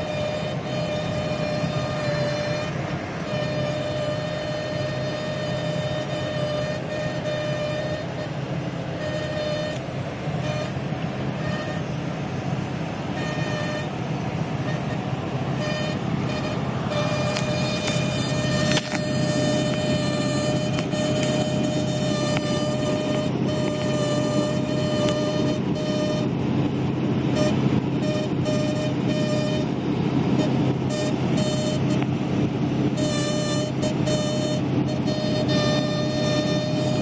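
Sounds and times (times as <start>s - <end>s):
high steady wind whine: 0.0s - 37.0s
road rumble: 0.0s - 37.0s.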